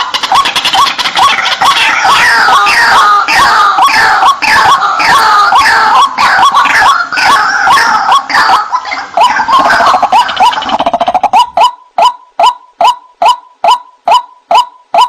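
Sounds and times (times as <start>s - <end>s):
waterhens calling harshly: 0.0s - 15.0s.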